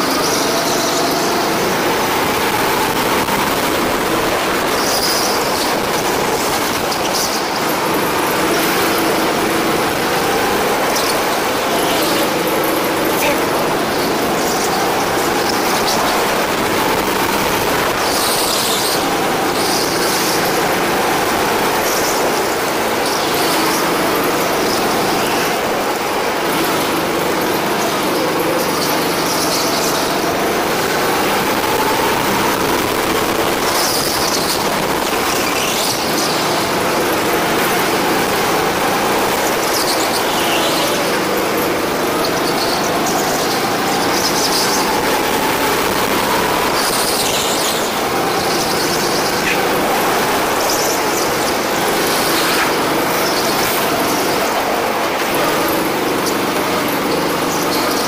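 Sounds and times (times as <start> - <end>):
go-kart engine revving: 0.0 - 58.0
tyres squealing: 0.0 - 58.0.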